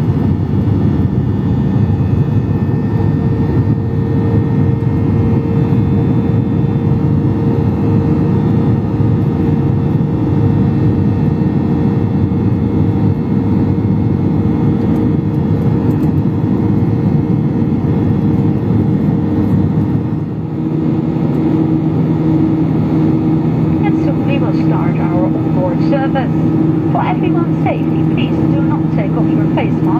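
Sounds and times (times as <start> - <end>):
jet engines droning: 0.0 - 29.9
steady hum: 0.0 - 29.9.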